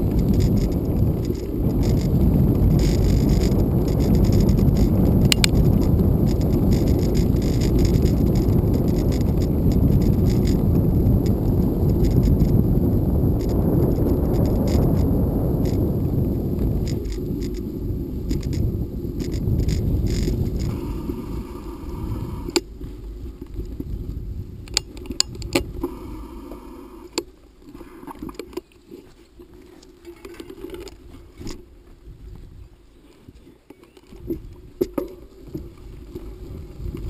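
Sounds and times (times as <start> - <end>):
bicycle clicks and rattles: 0.0 - 31.6, 33.7 - 37.0
wind rumble on microphone: 0.0 - 37.0.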